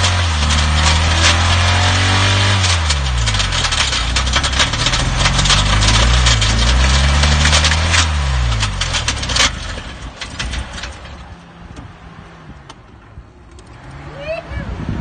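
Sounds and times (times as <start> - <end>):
engine running hum: 0.0 - 15.0.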